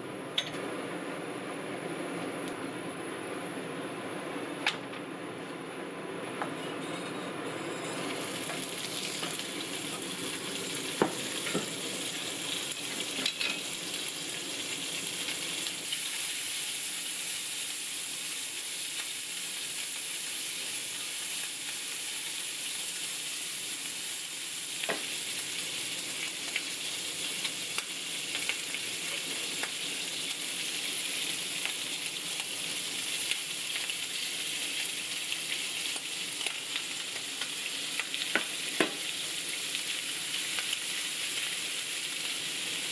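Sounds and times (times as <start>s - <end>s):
bacon sizzling in a pan: 7.7s - 42.9s.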